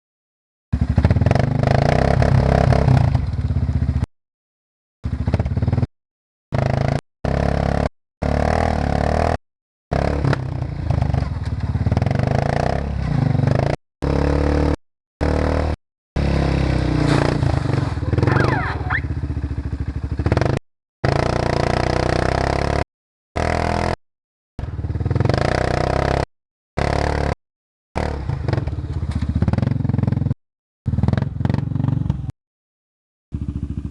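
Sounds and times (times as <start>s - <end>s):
atv engine revving: 0.8s - 4.1s, 5.0s - 5.9s, 6.5s - 24.0s, 24.6s - 27.4s, 28.0s - 32.3s, 33.3s - 33.9s.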